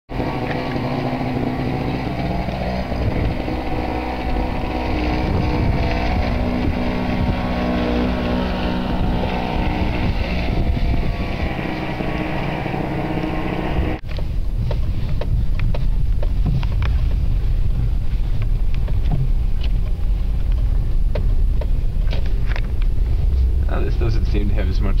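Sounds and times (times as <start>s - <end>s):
car engine running: 0.1s - 25.0s
rough rushing noise with crackles: 0.1s - 25.0s.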